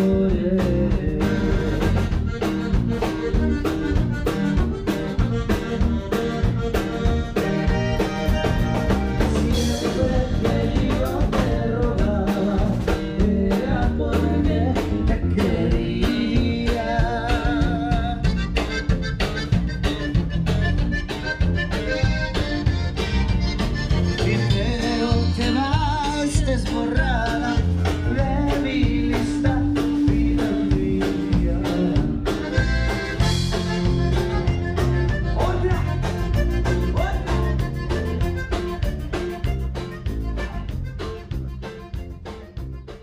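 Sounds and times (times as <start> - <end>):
accordion melody: 0.0 - 43.0
guitar bass and drums: 0.0 - 43.0.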